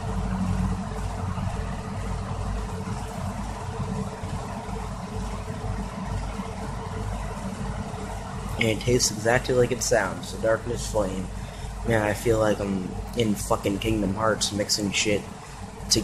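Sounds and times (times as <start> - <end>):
low rumbling hum: 0.0 - 16.0.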